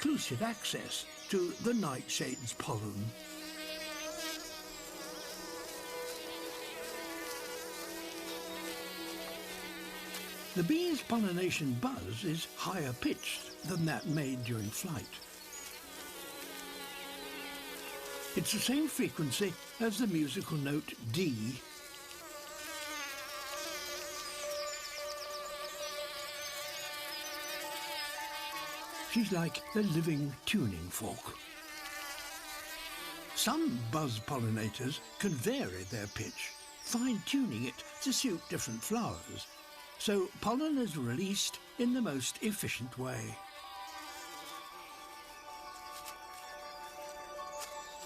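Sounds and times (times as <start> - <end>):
bumblebee buzzing: 0.0 - 48.0.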